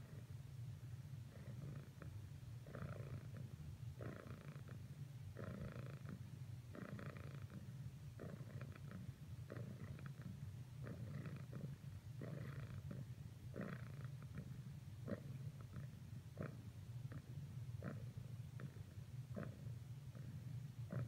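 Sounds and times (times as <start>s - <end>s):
cat purring: 0.0s - 0.4s, 1.1s - 21.0s.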